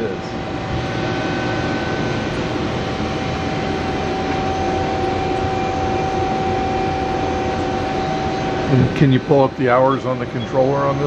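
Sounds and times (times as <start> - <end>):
lathe humming with high whine: 0.0 - 11.0
higher tone: 0.7 - 11.0.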